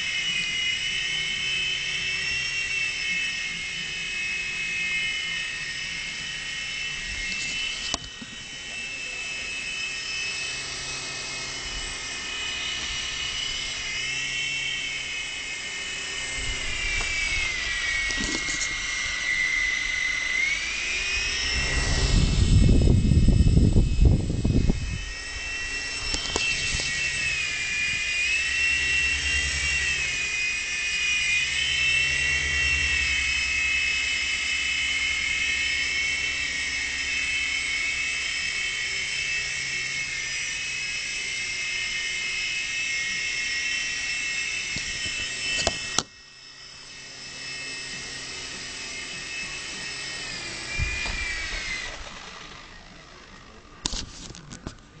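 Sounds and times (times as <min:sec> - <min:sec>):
model helicopter whining: 0:00.0 - 0:55.0.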